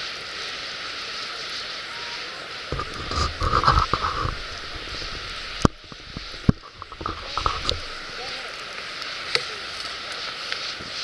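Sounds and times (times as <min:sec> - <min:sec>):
fire popping: 0:00.0 - 0:11.0
wood fire hissing: 0:00.0 - 0:11.0.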